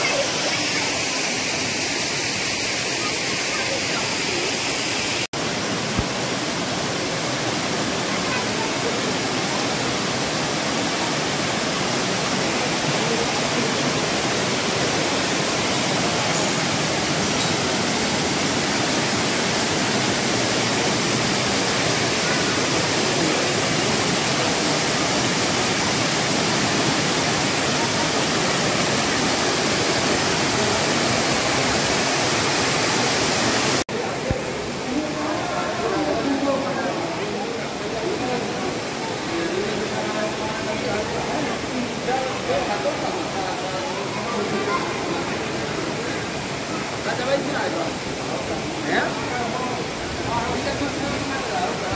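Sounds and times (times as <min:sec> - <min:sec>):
falling water rushing: 0:00.0 - 0:51.9.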